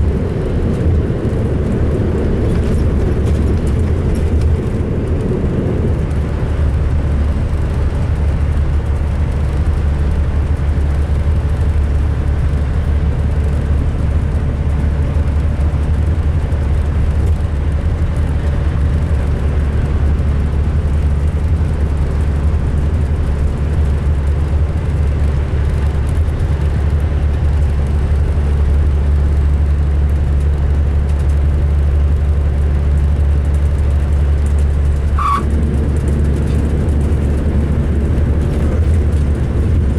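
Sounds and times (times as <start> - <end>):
coach diesel engine rumbling: 0.0 - 39.9
road noise: 0.0 - 39.9.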